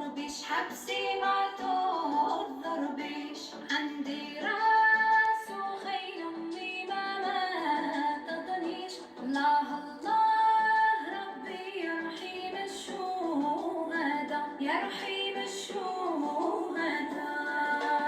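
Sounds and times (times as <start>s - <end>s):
background music: 0.0s - 18.0s
woman singing: 0.0s - 18.0s.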